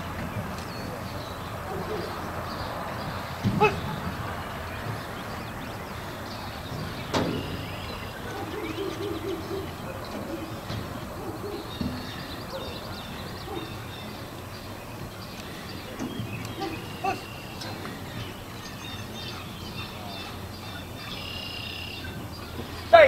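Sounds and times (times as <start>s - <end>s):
open-air ambience: 0.0s - 23.0s
small birds chirping: 0.0s - 23.0s.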